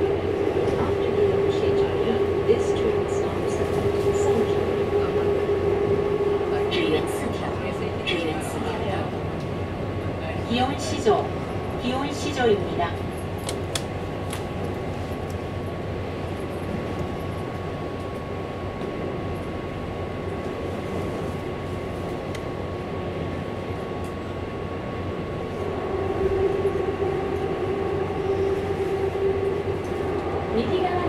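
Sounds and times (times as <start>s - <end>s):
train wheels and traction rumble: 0.0s - 31.0s.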